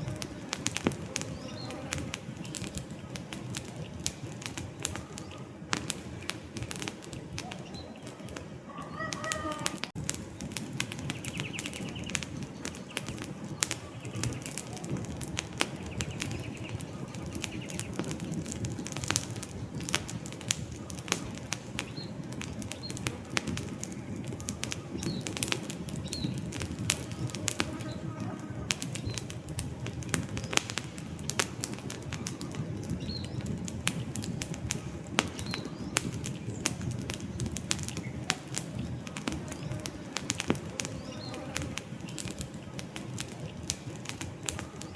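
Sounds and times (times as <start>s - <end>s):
flames rustling: 0.0s - 44.9s
wood crackling and popping: 0.0s - 44.9s.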